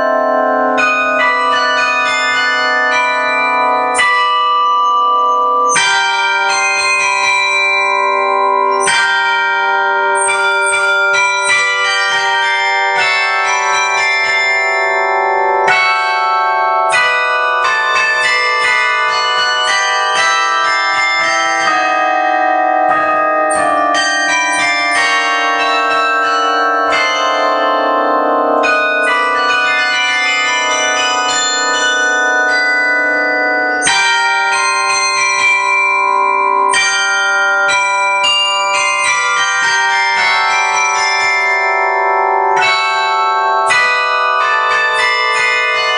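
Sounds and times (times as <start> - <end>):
carillon bells playing a melody: 0.0 - 45.9.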